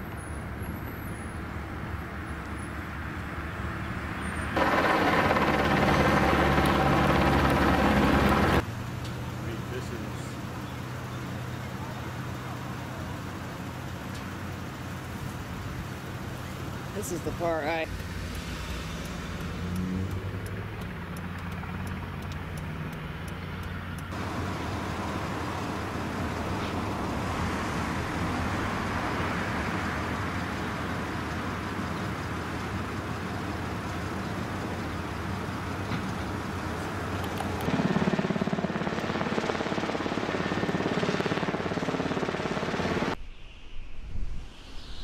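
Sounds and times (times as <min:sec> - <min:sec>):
low engine hum: 0:00.0 - 0:43.2
vehicles passing: 0:00.0 - 0:43.2.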